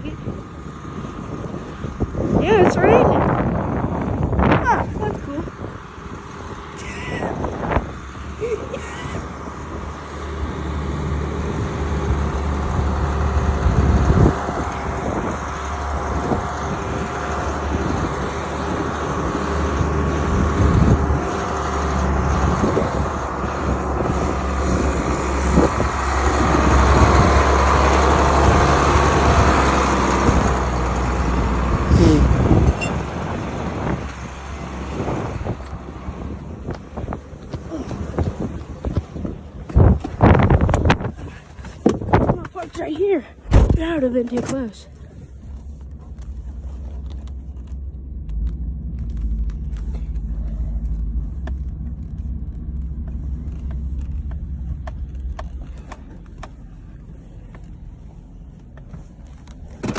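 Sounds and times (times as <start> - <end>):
farm vehicle engine rumbling: 0.0 - 59.9.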